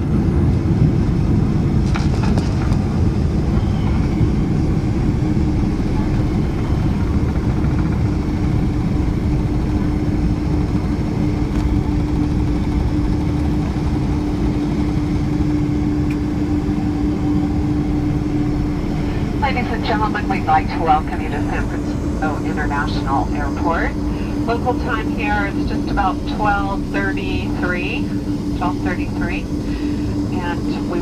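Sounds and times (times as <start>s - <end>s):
aircraft engine and airflow rumble: 0.0s - 31.0s
steady hum: 0.0s - 31.0s.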